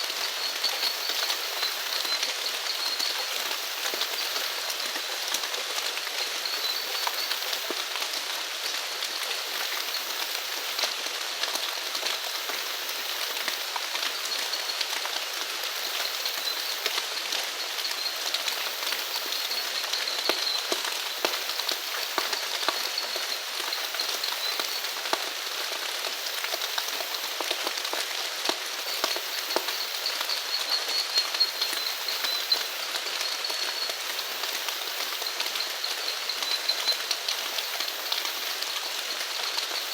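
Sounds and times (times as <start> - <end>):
steady rain falling: 0.0 - 39.9
raindrops ticking: 0.1 - 39.9.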